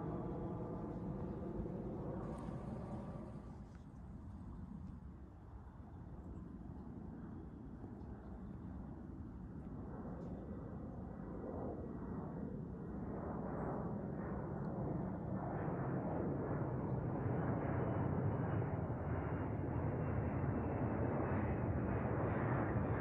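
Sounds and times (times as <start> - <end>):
jet engines rumbling overhead: 0.0 - 23.0.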